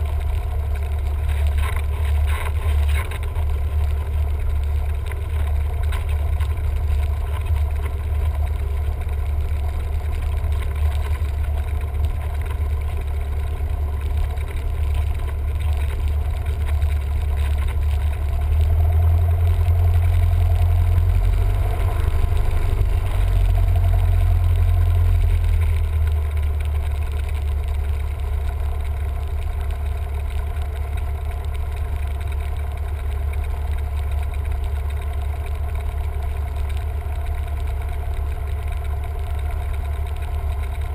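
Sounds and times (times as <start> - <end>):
propeller airplane engine drone: 0.0 - 40.9.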